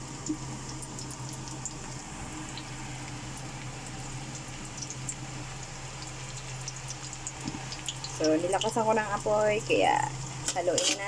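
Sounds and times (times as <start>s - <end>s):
food sizzling in oil in a wok: 0.0s - 11.0s
steady low hum: 0.0s - 11.0s.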